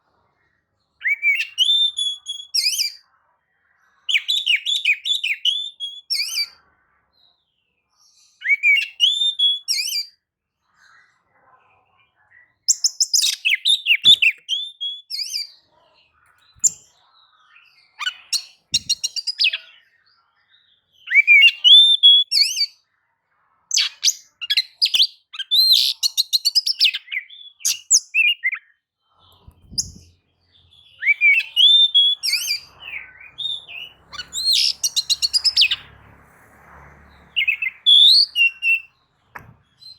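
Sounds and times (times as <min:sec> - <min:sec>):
bird singing: 0:01.0 - 0:03.0, 0:04.1 - 0:06.6, 0:07.2 - 0:10.1, 0:12.4 - 0:15.5, 0:16.2 - 0:22.8, 0:23.7 - 0:36.0, 0:36.8 - 0:39.9.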